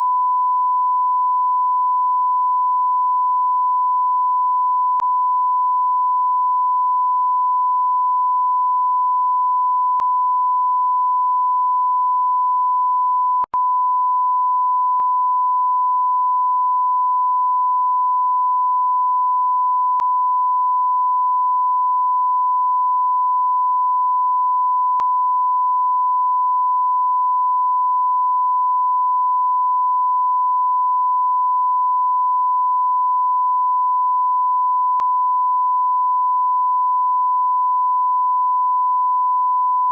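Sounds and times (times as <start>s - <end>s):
sine-wave censor bleep: 0.0s - 39.9s.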